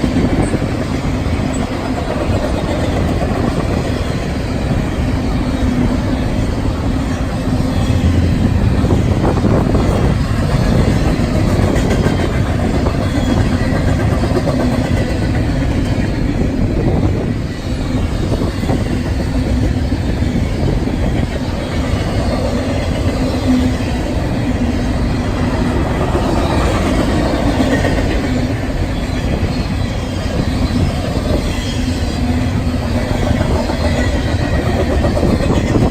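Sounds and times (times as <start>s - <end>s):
train wheels clickety-clack: 0.0s - 35.9s
train wheels rumbling on rail: 0.0s - 35.9s.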